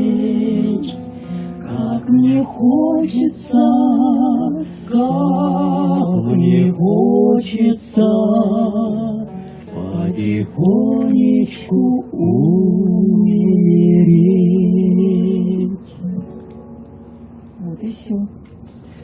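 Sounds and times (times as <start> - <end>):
woman and man singing: 0.0 - 1.0, 1.6 - 16.3
guitar: 0.0 - 19.0.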